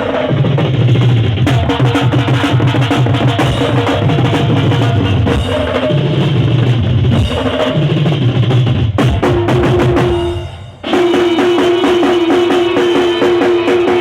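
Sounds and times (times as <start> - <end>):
drum-heavy music with thick bass: 0.0 - 14.0.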